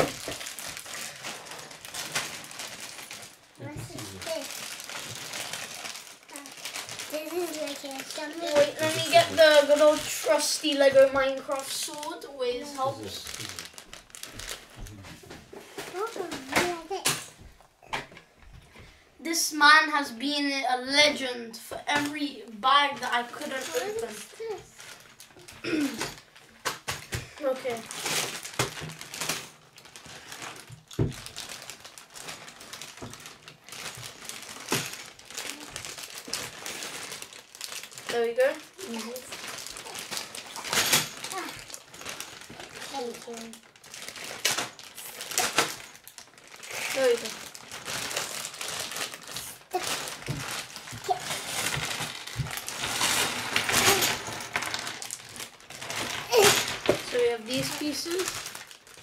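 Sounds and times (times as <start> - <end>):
plastic pieces shifting: 0.0 - 17.3, 22.9 - 59.0
plastic bags crinkling: 0.0 - 18.0, 21.0 - 59.0.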